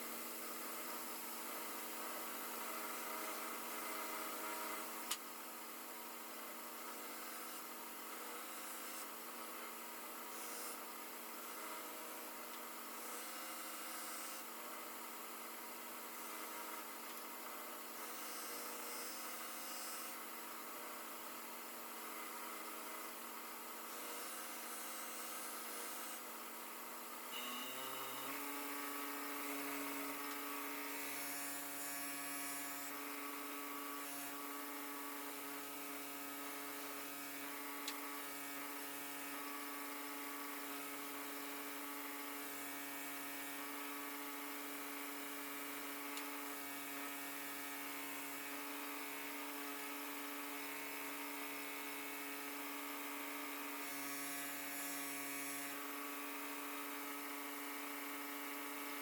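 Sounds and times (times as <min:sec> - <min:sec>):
electric motor whine and hum: 0:00.0 - 0:59.0.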